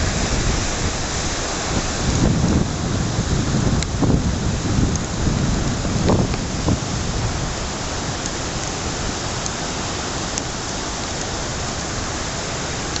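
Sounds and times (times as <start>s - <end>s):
wind rain and surf hiss: 0.0s - 13.0s.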